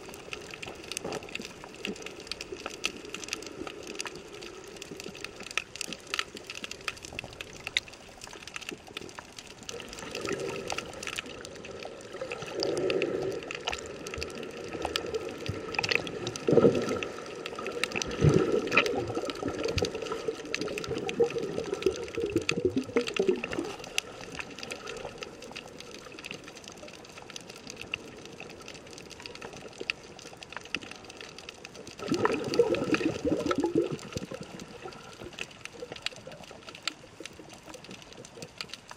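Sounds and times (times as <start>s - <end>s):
water sloshing underwater: 0.0s - 38.9s.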